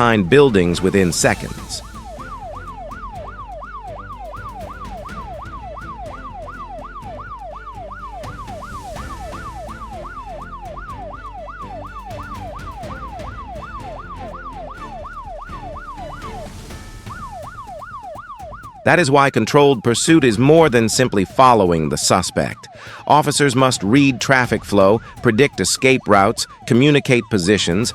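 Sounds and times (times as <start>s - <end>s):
background music: 0.0s - 27.9s
police siren yelping: 0.0s - 27.9s.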